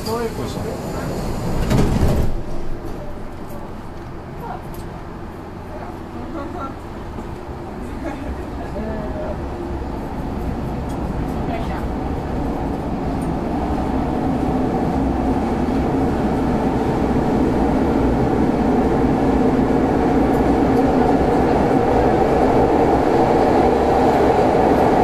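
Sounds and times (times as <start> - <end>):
train wheels and motors rumbling: 0.0 - 25.0.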